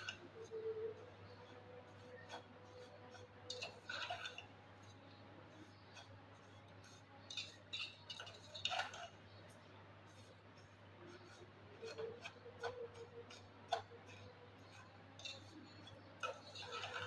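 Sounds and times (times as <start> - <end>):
skimmer scraping a steel pot: 0.0 - 9.4, 10.1 - 17.0.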